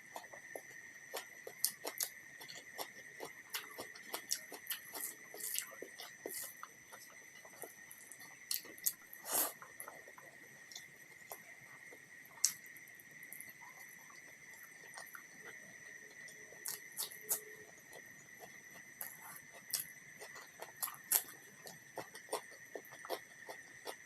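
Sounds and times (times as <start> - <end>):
faint high whine: 0.0 - 24.0
chewing: 0.1 - 12.6, 13.3 - 24.0.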